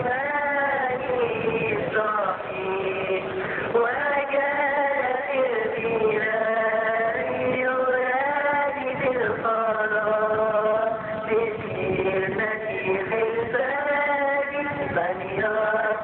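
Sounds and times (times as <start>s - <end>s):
voices chanting a hymn in unison: 0.0s - 16.0s.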